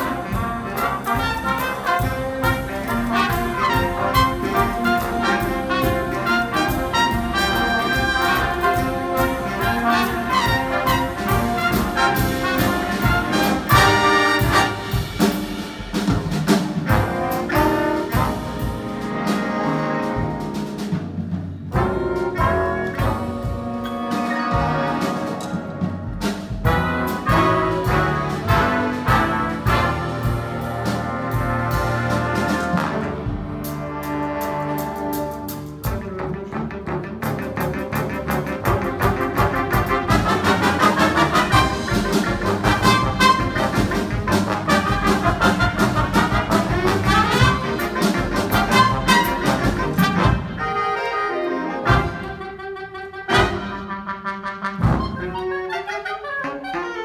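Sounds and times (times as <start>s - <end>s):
brass section playing: 0.0s - 21.0s, 21.7s - 57.0s.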